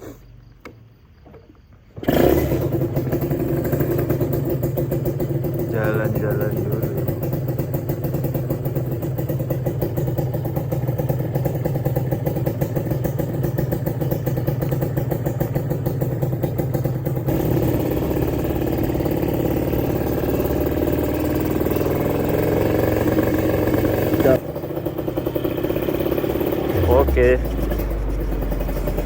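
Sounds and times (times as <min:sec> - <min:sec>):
motorcycle engine running: 0:02.0 - 0:29.0.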